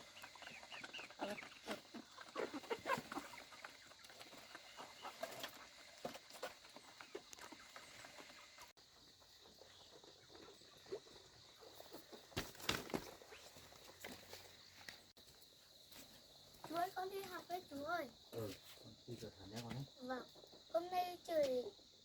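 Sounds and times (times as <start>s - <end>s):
chickens clucking: 0.0s - 15.5s, 19.5s - 21.9s.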